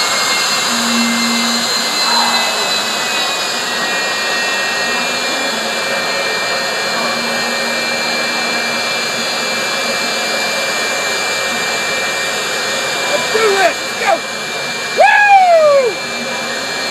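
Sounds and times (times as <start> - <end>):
turbine engine roar with whine: 0.0 - 16.9.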